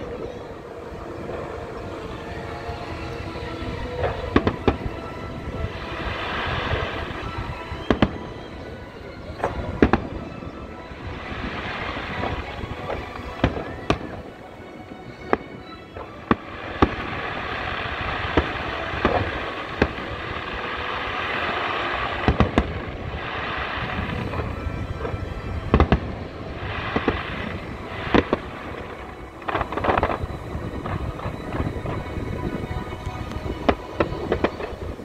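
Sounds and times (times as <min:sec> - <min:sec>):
background music: 0:00.0 - 0:35.0.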